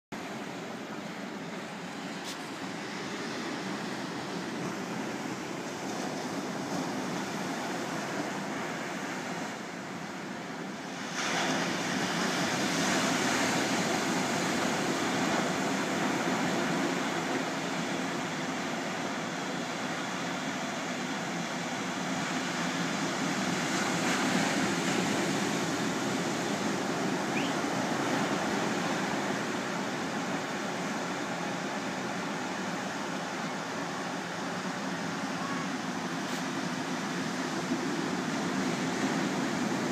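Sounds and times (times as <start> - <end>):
ocean waves breaking on beach: 0.2 - 39.9.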